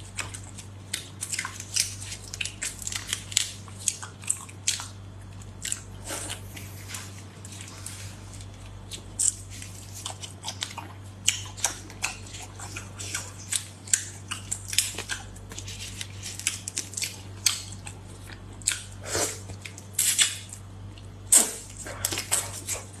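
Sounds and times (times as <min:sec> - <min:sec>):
lip smacks and chewing: 0:00.0 - 0:23.0.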